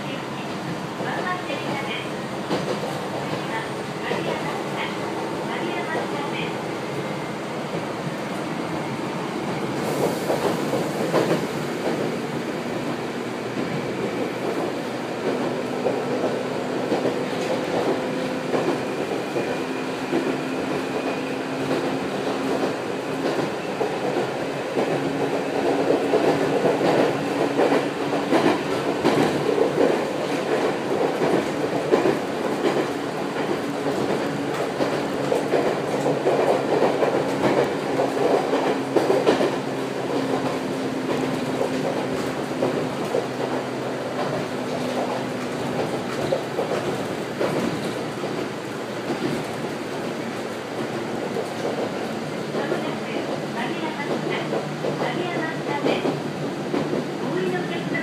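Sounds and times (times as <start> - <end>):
train running hum: 0.0 - 58.0.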